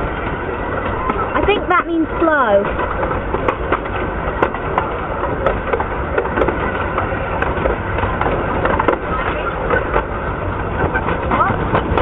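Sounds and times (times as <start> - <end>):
train wheels rumbling on track: 0.0 - 12.0
wheels and coach clicking: 0.0 - 12.0.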